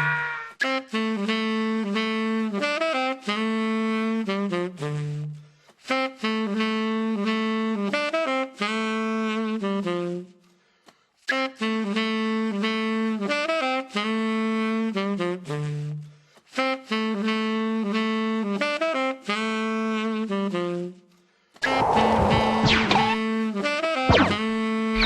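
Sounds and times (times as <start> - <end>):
saxophone-like melody: 0.0 - 10.5, 11.3 - 25.0.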